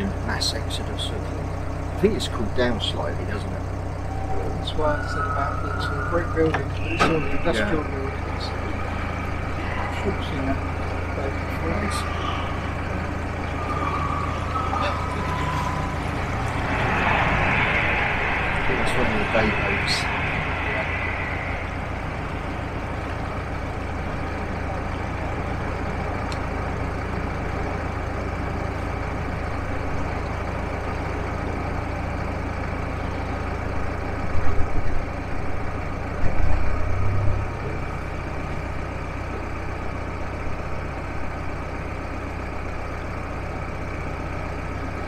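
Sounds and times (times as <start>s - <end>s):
boat diesel engine droning: 0.0s - 45.0s.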